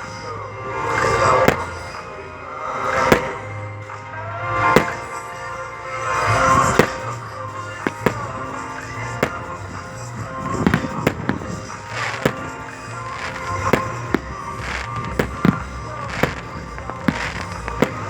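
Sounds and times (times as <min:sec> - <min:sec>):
background music: 0:00.0 - 0:18.0
fireworks crackling: 0:00.0 - 0:18.0
firecracker bangs: 0:01.0 - 0:02.0, 0:02.8 - 0:04.0, 0:04.6 - 0:18.0.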